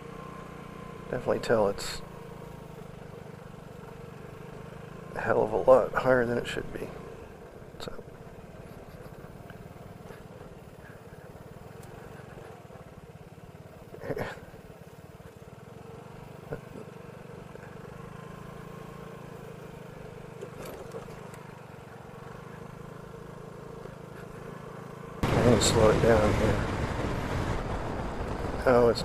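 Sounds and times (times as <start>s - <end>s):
scooter engine running: 0.0s - 29.0s.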